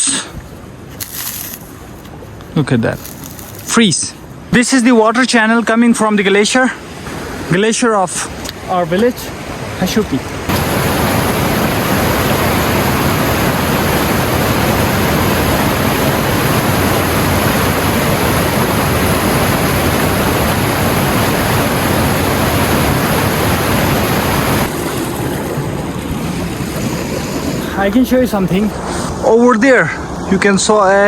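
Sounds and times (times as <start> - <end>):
water rushing in channel: 5.2 - 31.0.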